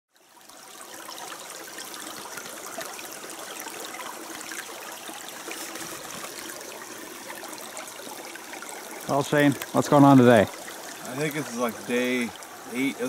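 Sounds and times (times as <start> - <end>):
running water trickling: 0.1 - 13.0.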